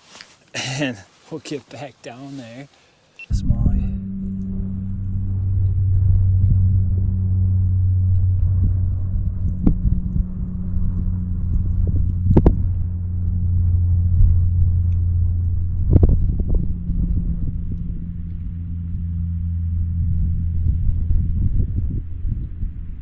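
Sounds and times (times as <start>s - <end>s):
low mechanical hum: 3.2s - 23.0s.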